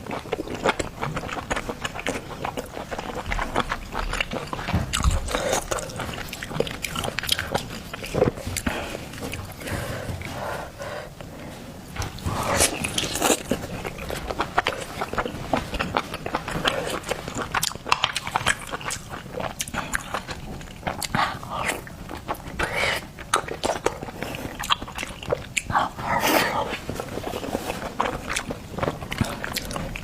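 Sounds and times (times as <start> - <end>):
person chewing seafood: 0.0 - 30.0.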